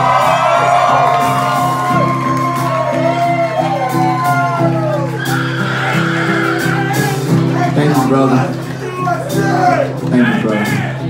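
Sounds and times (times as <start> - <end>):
country band playing: 0.0 - 11.0
crowd shouting and whooping: 0.0 - 11.0.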